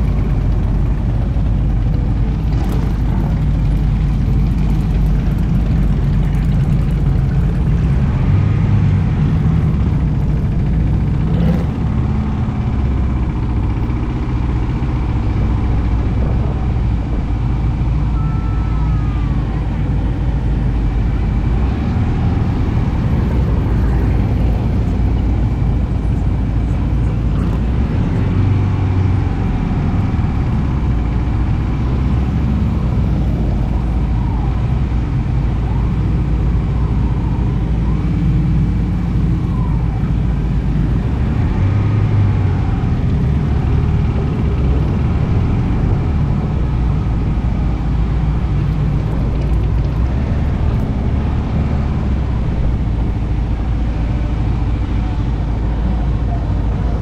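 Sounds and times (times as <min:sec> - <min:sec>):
motorcycle engine rumble: 0:00.0 - 0:57.0
nearby vehicle engines: 0:00.0 - 0:57.0
road noise: 0:00.0 - 0:57.0.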